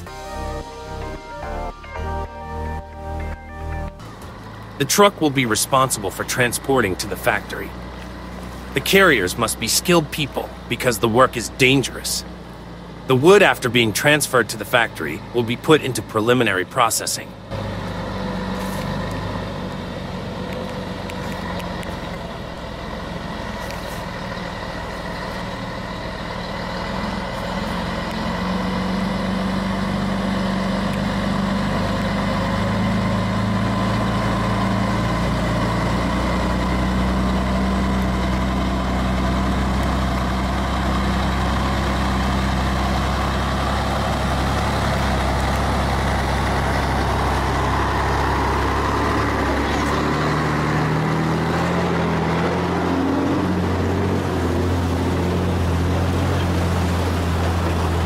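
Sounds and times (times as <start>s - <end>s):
heavy vehicle engine running: 0.0s - 58.0s.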